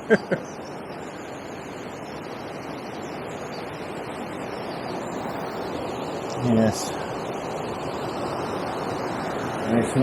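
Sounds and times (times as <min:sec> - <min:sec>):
river water pouring over weir: 0:00.0 - 0:10.0.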